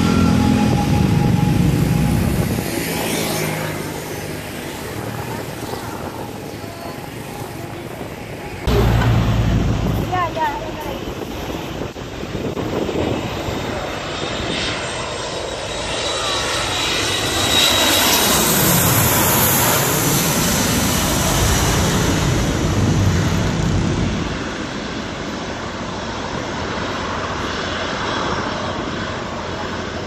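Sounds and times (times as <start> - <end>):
high jet engine whine: 0.0 - 30.0
jet airliner passing overhead: 0.0 - 30.0.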